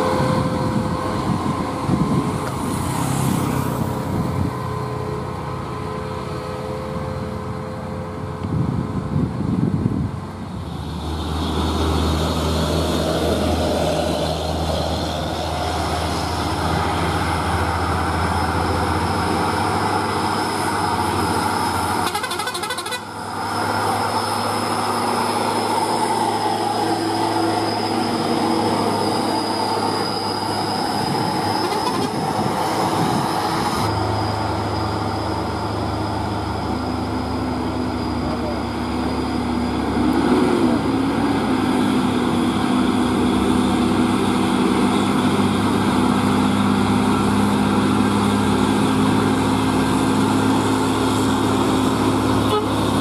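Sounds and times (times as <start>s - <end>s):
diesel truck engines howling: 0.0s - 53.0s.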